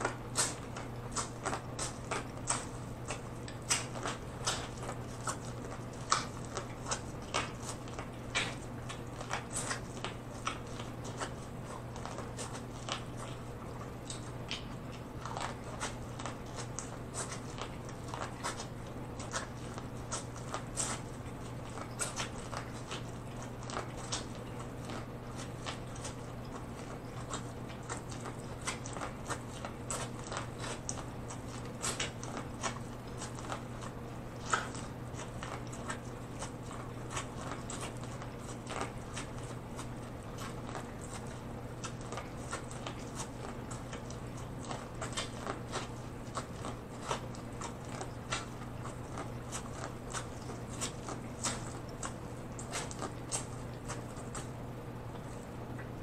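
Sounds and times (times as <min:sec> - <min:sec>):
chewing corn on the cob: 0:00.0 - 0:56.0.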